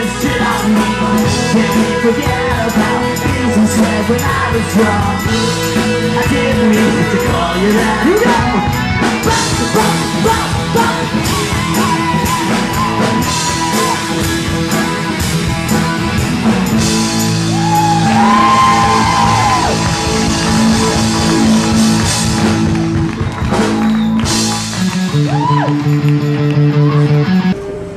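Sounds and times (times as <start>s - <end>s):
drum kit with cymbal crashes: 0.0s - 25.6s
bass guitar: 0.0s - 27.9s
electric guitar: 0.0s - 27.9s.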